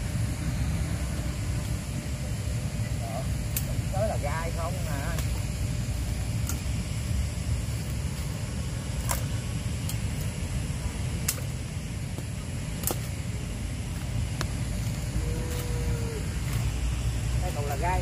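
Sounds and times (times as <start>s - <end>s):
steady low rumbling: 0.0s - 18.0s.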